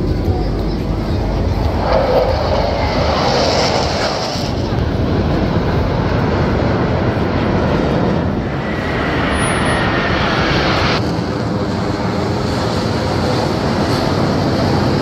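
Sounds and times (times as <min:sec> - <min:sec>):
jet roar overhead: 0:00.0 - 0:15.0.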